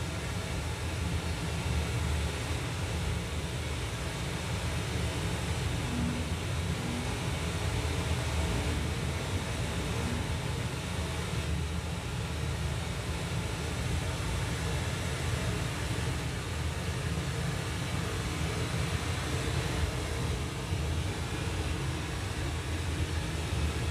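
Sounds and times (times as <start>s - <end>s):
deep rumble with hiss from soundbar: 0.0s - 23.9s.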